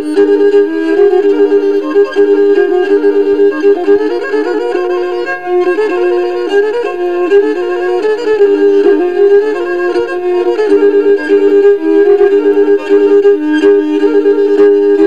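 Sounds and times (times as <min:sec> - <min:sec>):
bowed string instrument melody: 0:00.0 - 0:15.0.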